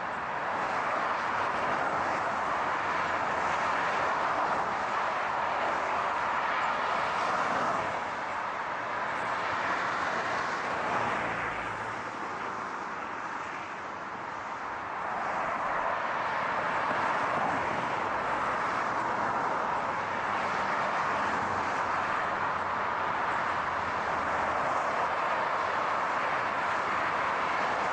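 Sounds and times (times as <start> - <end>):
car road noise: 0.0 - 27.9.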